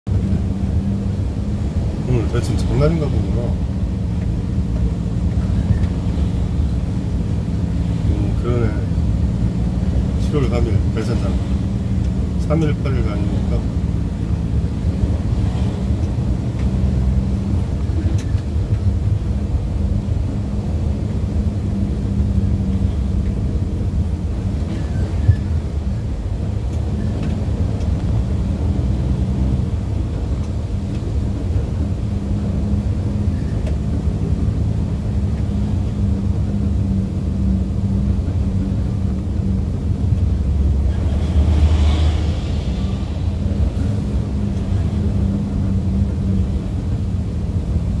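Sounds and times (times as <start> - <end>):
vehicle engine and road rumble: 0.0 - 48.0.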